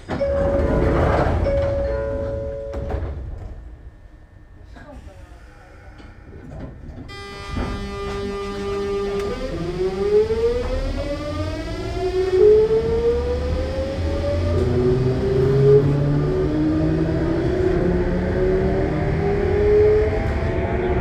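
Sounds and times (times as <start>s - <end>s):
electric train inverter whine: 0.0s - 21.0s
train running rumble: 0.0s - 21.0s.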